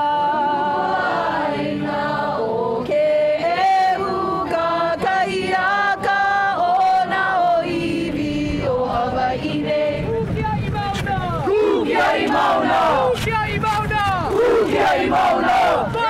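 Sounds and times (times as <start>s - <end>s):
crowd singing unaccompanied: 0.0s - 16.0s.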